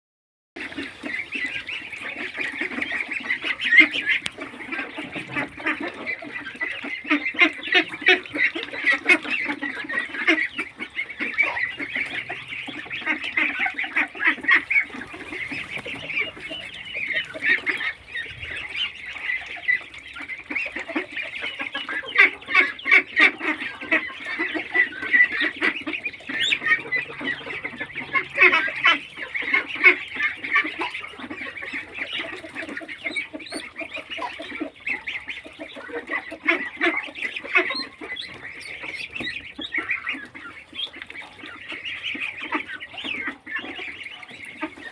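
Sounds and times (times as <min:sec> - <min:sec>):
waterfowl honking and quacking: 0:00.6 - 0:44.9.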